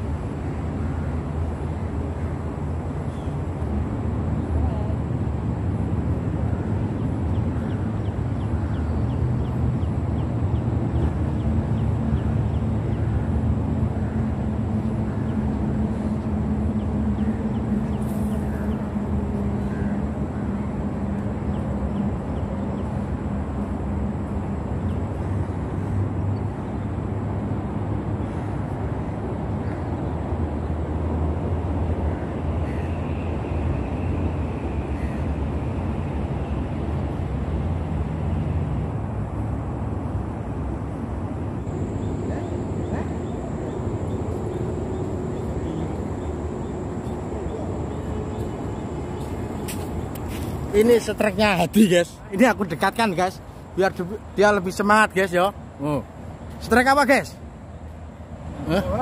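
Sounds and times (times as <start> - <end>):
engine hum: 0.0 - 59.0
low rumble of road traffic: 0.0 - 59.0.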